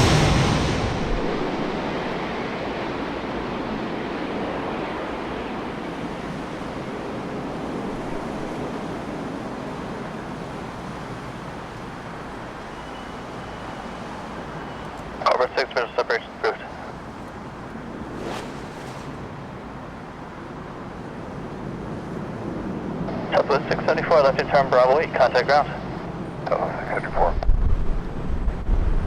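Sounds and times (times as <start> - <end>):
jet airliner engine rush: 0.0 - 29.0.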